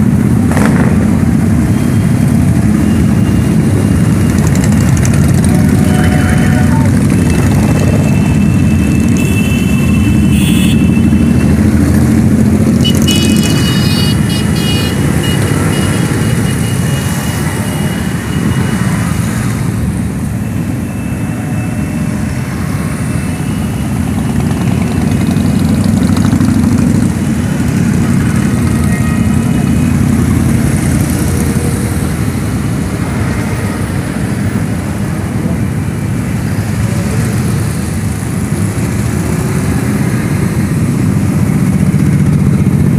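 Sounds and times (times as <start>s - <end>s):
motorcycle engines rumbling: 0.0s - 42.9s.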